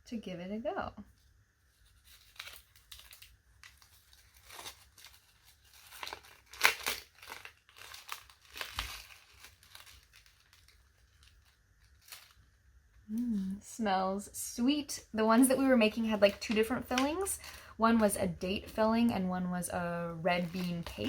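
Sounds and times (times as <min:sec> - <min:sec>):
wrapping crinkling and tearing: 0:01.1 - 0:13.6, 0:15.3 - 0:21.0.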